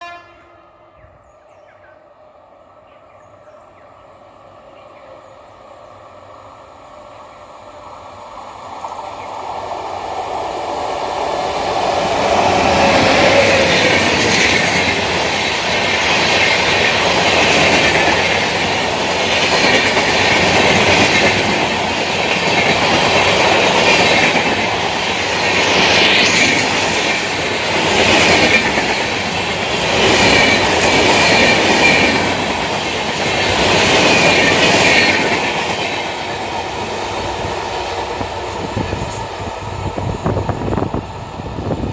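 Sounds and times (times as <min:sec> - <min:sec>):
train rumble passing: 0:00.6 - 0:41.9.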